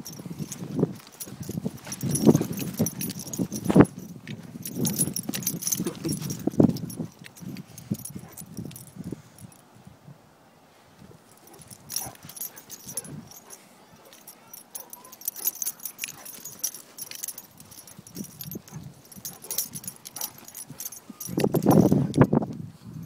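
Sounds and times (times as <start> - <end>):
metal collar tags jingling: 0.0 - 9.6, 11.2 - 23.0.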